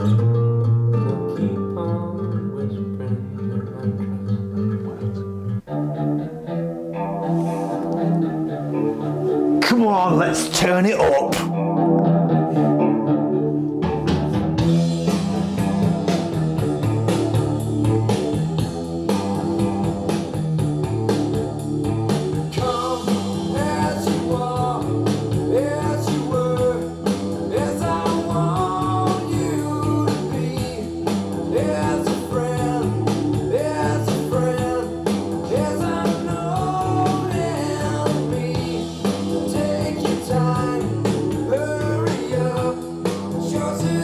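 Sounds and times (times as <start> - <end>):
guitar song with singing: 0.0 - 44.0.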